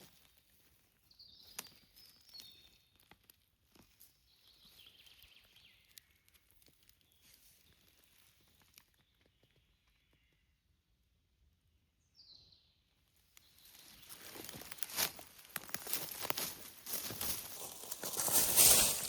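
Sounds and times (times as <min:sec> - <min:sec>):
clicks and crackles of twigs: 0:00.0 - 0:10.4, 0:13.1 - 0:19.0.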